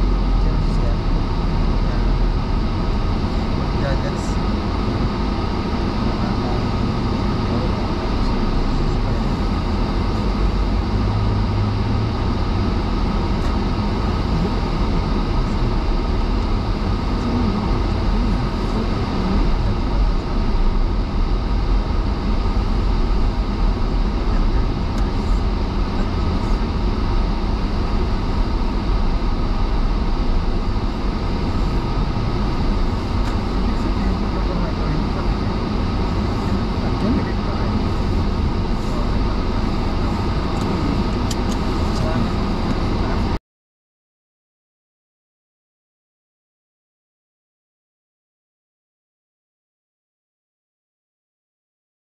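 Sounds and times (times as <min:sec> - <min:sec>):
car road and engine rumble: 0:00.0 - 0:43.4.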